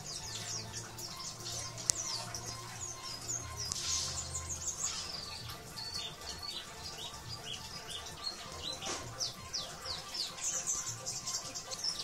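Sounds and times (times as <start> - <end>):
bird singing high chirps: 0.0 - 12.0.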